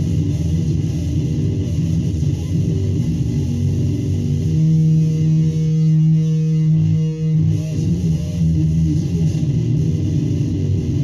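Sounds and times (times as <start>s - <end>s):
guitar music through loudspeaker: 0.0s - 11.0s.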